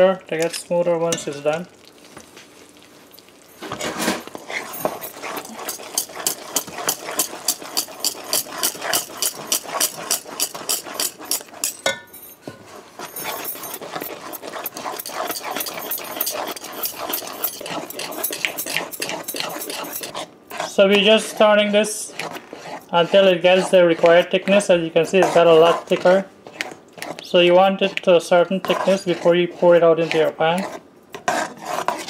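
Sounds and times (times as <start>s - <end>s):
metal spoon scraping a pot: 3.6s - 32.0s.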